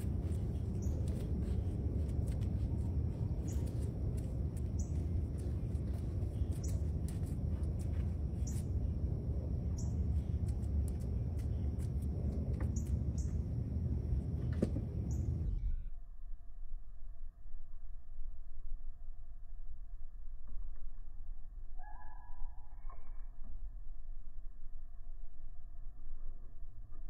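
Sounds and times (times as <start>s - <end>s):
steady low rumble: 0.0s - 21.8s, 22.5s - 27.0s.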